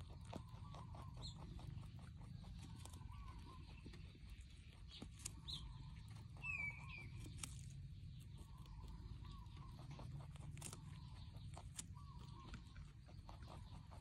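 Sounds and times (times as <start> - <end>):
low steady rumble: 0.0 - 14.0
rabbit chewing: 0.0 - 14.0.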